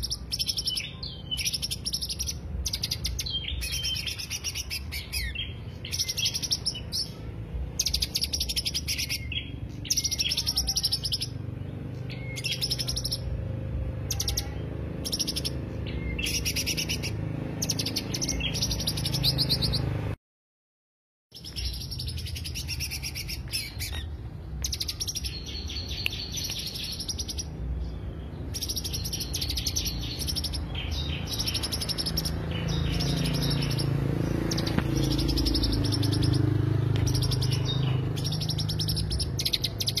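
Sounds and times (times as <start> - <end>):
bird chattering song: 0.0 - 20.2, 21.3 - 40.0.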